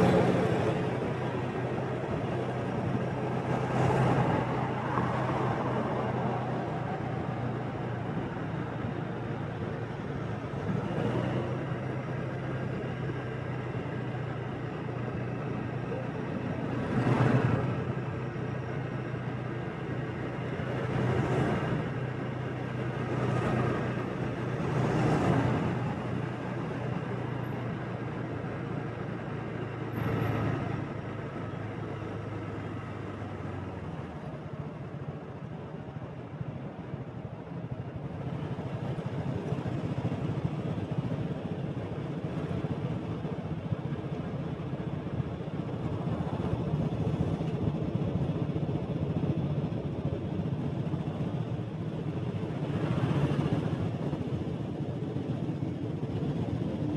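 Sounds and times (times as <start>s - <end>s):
vehicles passing: 0.0s - 48.5s.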